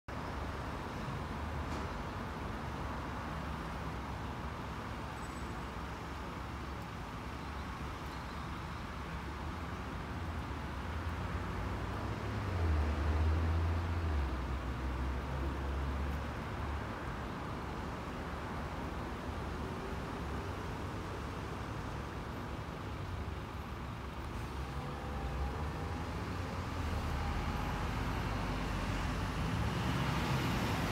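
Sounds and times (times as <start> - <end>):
road traffic rumble: 0.1 - 30.9.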